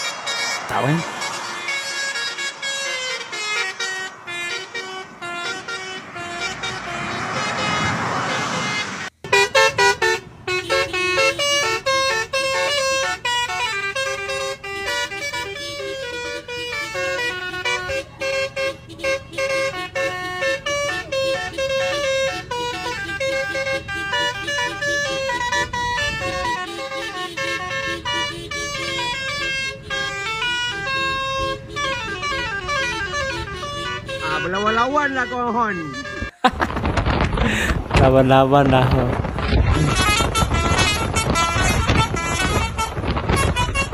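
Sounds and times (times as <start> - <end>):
musical air horn playing a tune: 0.0 - 36.5, 39.4 - 43.9.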